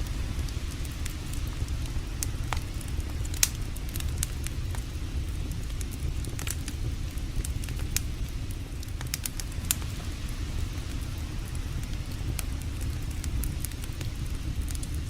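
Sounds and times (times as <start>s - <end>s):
campfire crackling: 0.0s - 15.0s
fire popping: 0.0s - 15.0s
low rushing noise: 0.0s - 15.0s.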